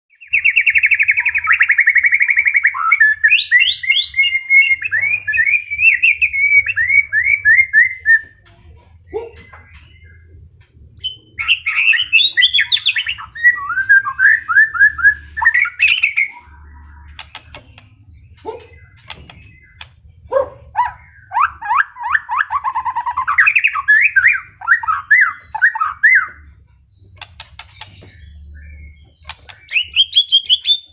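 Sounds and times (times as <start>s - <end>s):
bird singing whistled phrases: 0.1s - 8.4s, 11.0s - 26.5s, 27.2s - 30.9s.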